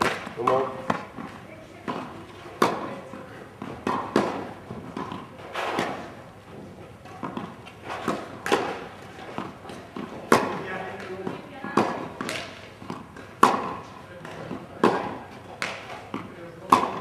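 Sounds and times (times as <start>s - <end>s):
tennis ball bouncing on court: 0.0s - 17.0s
tennis ball struck by racket: 0.0s - 17.0s.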